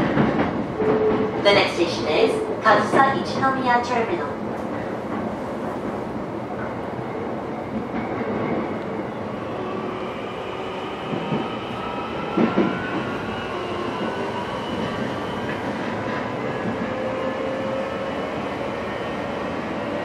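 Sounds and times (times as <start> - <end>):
train wheel and rail noise: 0.0 - 20.0.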